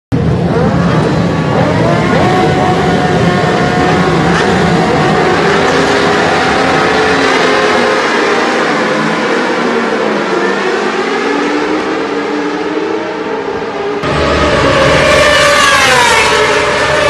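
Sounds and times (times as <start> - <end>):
many motorcycle engines revving: 0.1 - 17.0.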